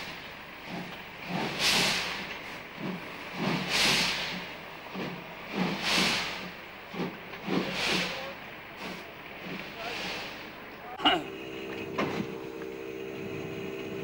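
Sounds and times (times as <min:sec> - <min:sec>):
loud steam hissing: 0:00.0 - 0:12.2
steam locomotive exhaust beats: 0:00.0 - 0:14.0.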